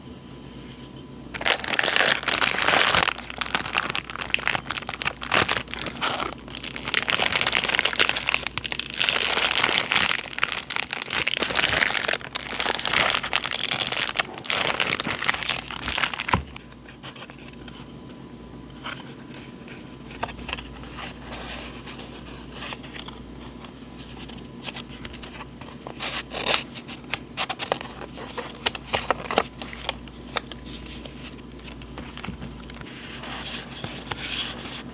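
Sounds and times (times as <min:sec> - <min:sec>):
packaging crinkling and rustling: 0:01.3 - 0:17.9, 0:18.8 - 0:34.9.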